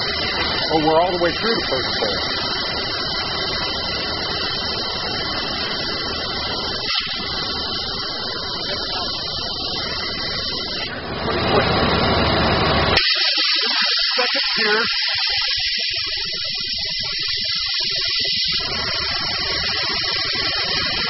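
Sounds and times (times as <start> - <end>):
waterjet cutter hissing: 0.0 - 21.0.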